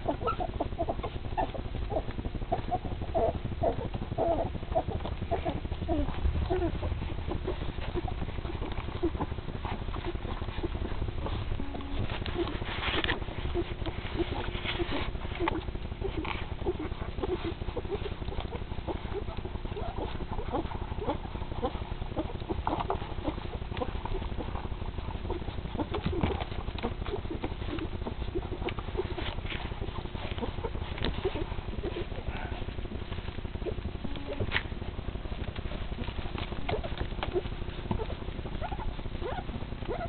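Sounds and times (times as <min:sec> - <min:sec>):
puppies squeaking and grunting: 0:00.0 - 0:40.0
puppies sucking: 0:00.0 - 0:40.0.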